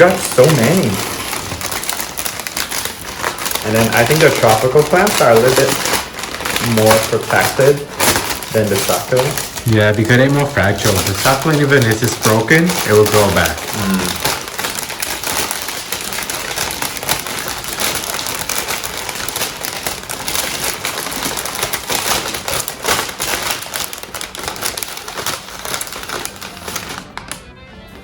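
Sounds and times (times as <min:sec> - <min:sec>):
packing material crinkling: 0:00.0 - 0:27.5.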